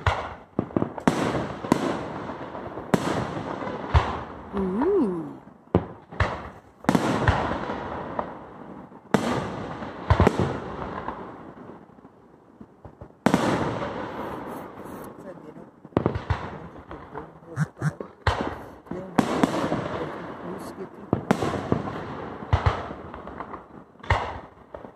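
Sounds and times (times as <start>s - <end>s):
fireworks bursting with echo: 0.0s - 4.6s, 5.7s - 11.8s, 12.8s - 15.2s, 15.9s - 24.9s.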